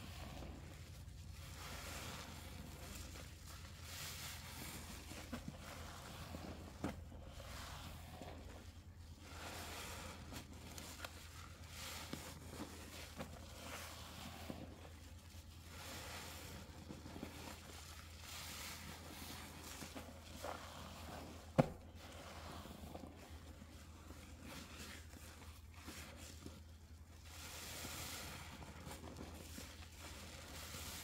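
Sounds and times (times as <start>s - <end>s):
wet sponge squelching: 0.0s - 31.0s.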